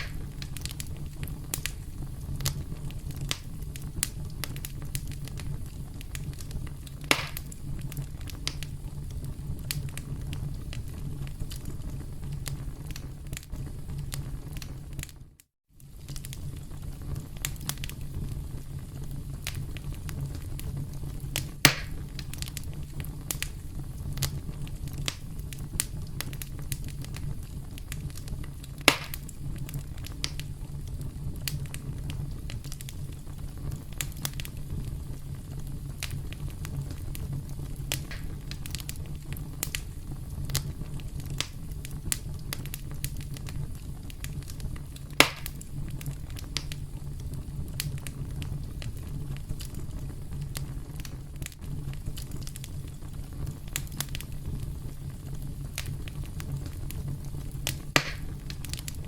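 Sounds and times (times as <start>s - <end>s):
campfire crackling: 0.0s - 59.0s
fire pops: 0.0s - 59.0s.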